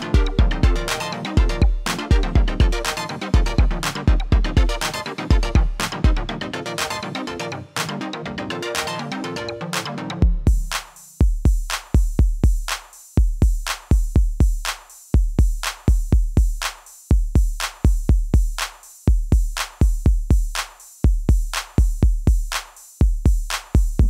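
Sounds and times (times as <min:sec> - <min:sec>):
electronic drum machine beat: 0:00.0 - 0:24.0.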